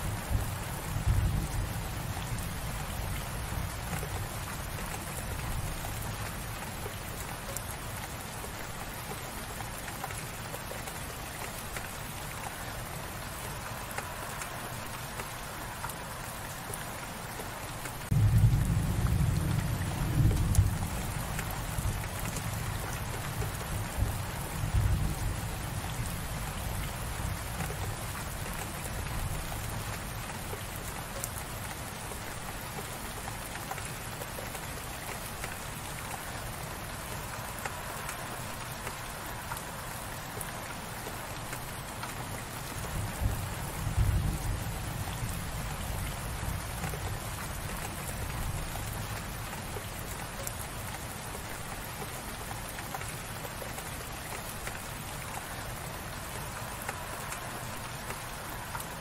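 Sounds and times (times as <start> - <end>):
light rain patter: 0.0 - 59.0.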